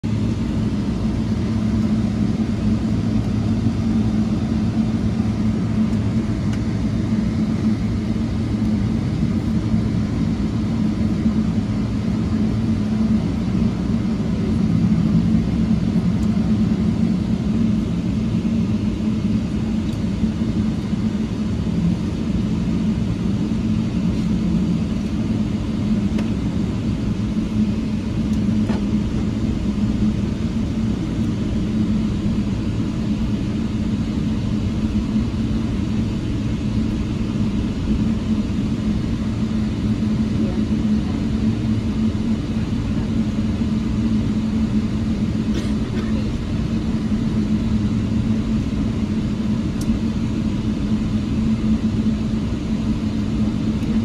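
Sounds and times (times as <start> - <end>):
jet engines idling in cabin: 0.0 - 54.0.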